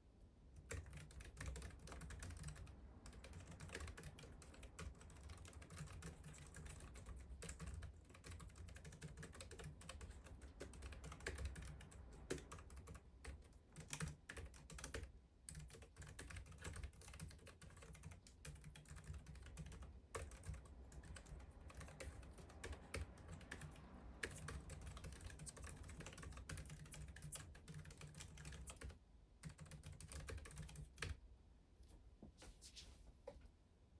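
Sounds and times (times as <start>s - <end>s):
soft keyboard typing: 0.6s - 31.2s.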